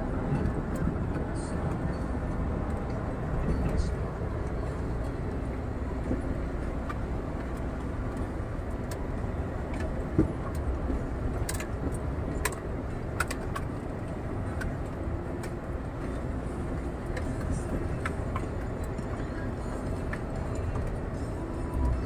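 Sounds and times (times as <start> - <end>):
cab rattles and clicks: 0.0 - 22.0
road noise: 0.0 - 22.0
truck diesel engine droning: 0.0 - 22.0.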